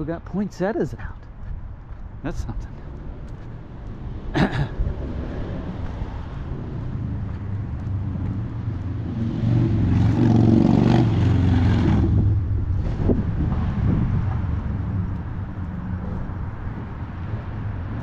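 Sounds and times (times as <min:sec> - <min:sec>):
low traffic rumble: 0:00.0 - 0:18.0
car passing: 0:02.6 - 0:18.0.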